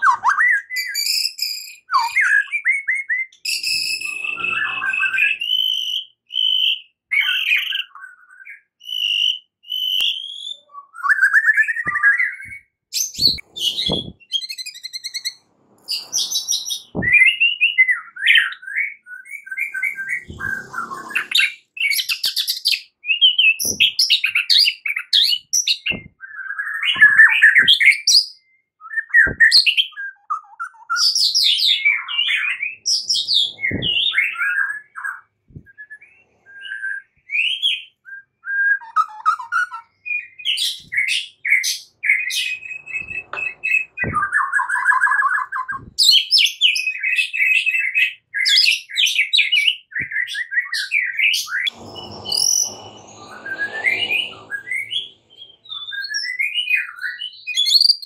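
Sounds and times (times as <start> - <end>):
bird singing whistles and trills: 0.0 - 58.0.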